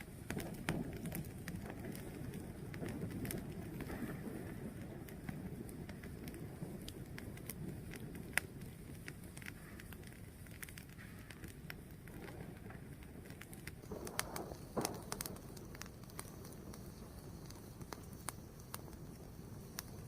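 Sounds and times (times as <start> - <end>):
fire crackling and popping: 0.0 - 20.0
wood fire rumbling: 0.0 - 20.0.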